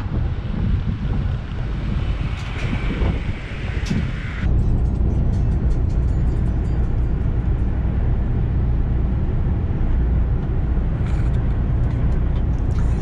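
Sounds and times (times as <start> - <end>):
truck engine and tyre rumble: 0.0 - 13.0.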